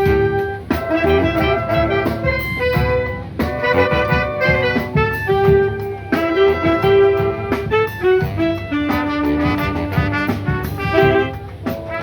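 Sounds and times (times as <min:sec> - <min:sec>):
band playing upbeat music: 0:00.0 - 0:12.0
brass and saxophone melody: 0:00.0 - 0:12.0
steady drum beat: 0:00.0 - 0:12.0.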